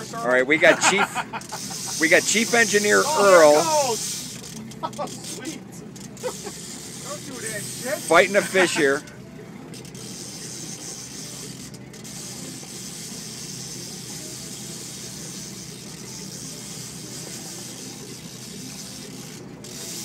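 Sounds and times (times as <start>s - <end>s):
fishing reel whirring: 0.0s - 20.0s.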